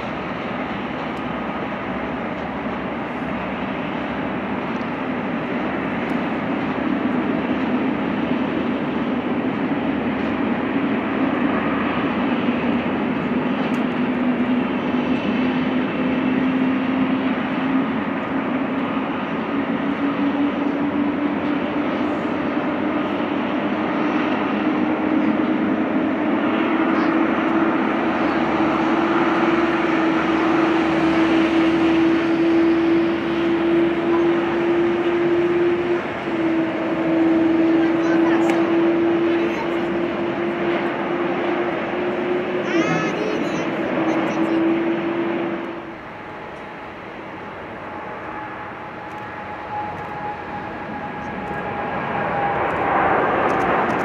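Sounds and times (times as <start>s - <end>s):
jet engines taxiing: 0.0s - 54.0s.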